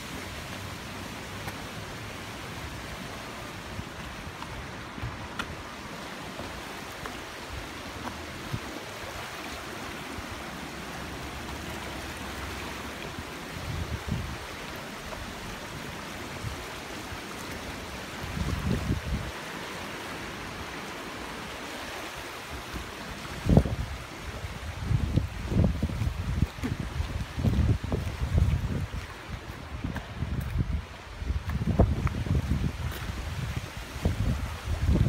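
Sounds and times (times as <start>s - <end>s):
water rushing over stones: 0.0s - 35.0s.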